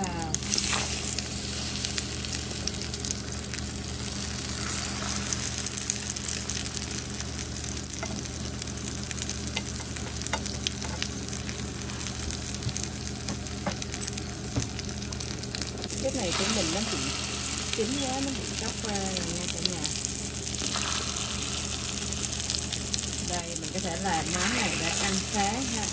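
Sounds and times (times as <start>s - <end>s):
food sizzling in hot oil: 0.0s - 25.9s
spitting oil crackles and pops: 0.1s - 25.9s.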